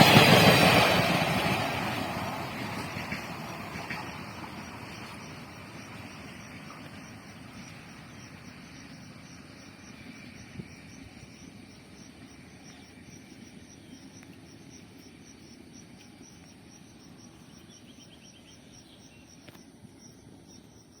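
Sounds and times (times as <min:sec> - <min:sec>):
train rumbling: 0:00.0 - 0:21.0
insect chirping: 0:03.8 - 0:21.0.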